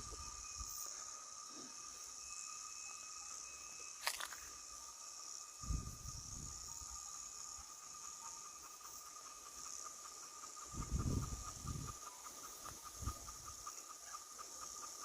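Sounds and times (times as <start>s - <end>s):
insects chirring: 0.0s - 15.0s
low insect trill: 0.0s - 15.0s.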